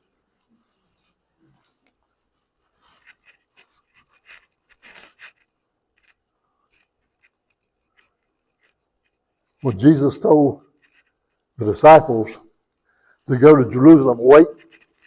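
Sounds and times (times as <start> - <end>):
rustling scrapes: 0.0 - 11.6, 14.5 - 15.0.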